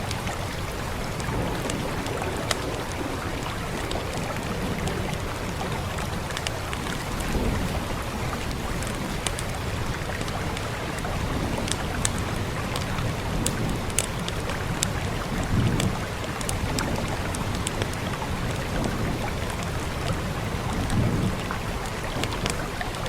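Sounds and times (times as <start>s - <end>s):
rain hissing: 0.0s - 23.0s
wood fire crackling: 0.0s - 23.0s.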